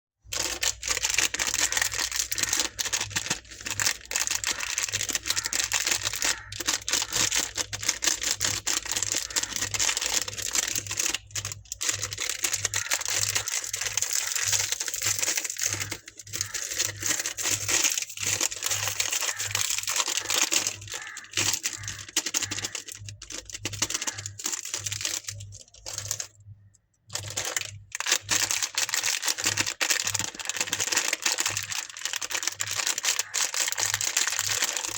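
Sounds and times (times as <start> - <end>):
candy wrappers crinkling and tearing: 0.2 - 34.9.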